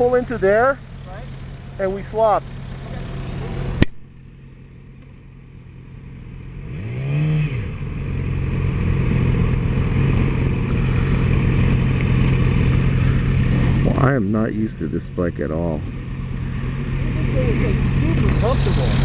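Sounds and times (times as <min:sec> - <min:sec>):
motorcycle engine revving: 0:00.0 - 0:04.7, 0:05.5 - 0:19.0.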